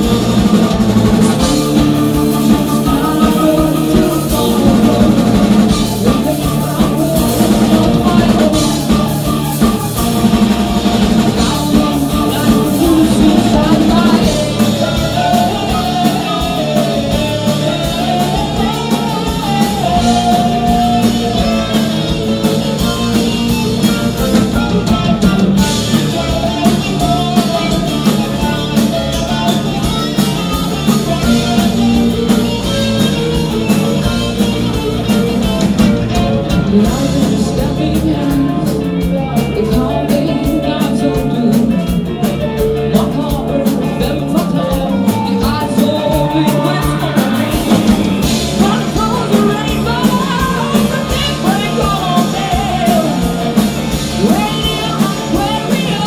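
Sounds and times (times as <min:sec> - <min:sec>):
bass guitar: 0:00.0 - 0:56.0
drum kit: 0:00.0 - 0:56.0
electric guitars: 0:00.0 - 0:56.0
woman singing: 0:01.0 - 0:32.8, 0:36.1 - 0:56.0.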